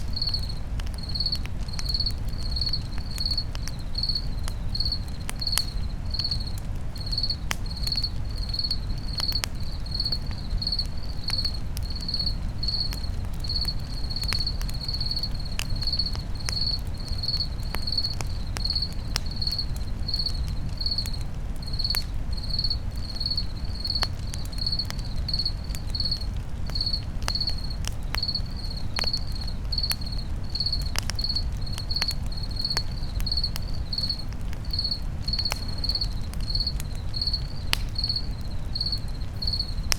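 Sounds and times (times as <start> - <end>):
campfire crackling and popping: 0.0 - 39.9
cricket chirping: 0.0 - 39.9.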